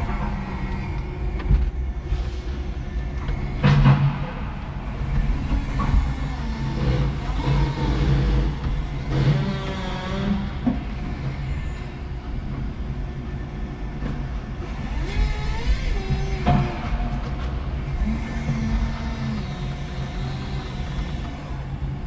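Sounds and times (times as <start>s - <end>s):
electric forklift humming: 0.0s - 22.0s.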